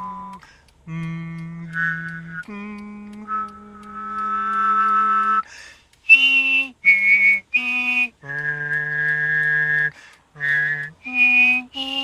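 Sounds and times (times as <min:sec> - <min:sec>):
person singing wordless melody: 0:00.0 - 0:12.0.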